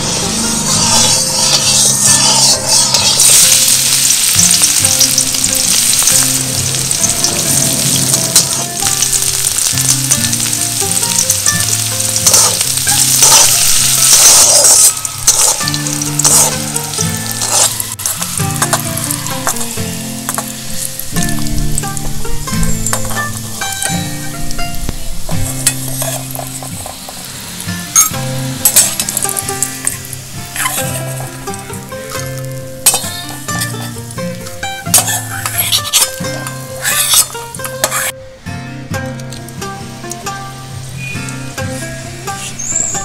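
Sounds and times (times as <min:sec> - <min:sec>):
metal spatula scraping a pan: 0:00.0 - 0:24.4, 0:25.3 - 0:38.2
instrumental background music: 0:00.0 - 0:43.0
vegetables sizzling in a wok: 0:00.0 - 0:43.0.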